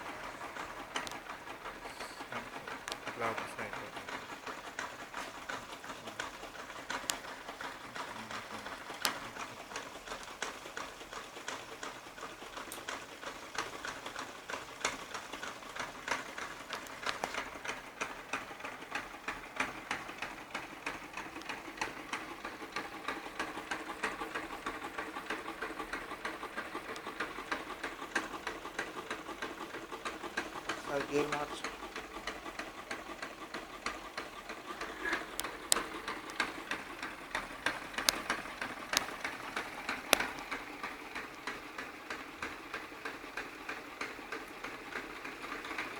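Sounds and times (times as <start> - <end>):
engine mechanism clicking rapidly: 0.0 - 45.9.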